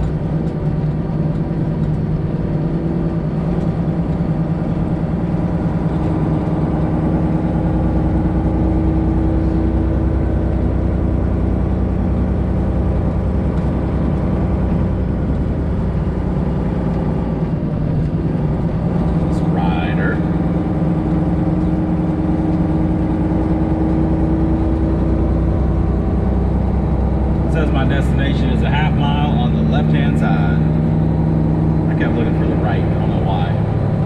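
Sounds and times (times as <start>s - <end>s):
road noise: 0.0s - 34.0s
truck diesel engine droning: 0.0s - 34.0s.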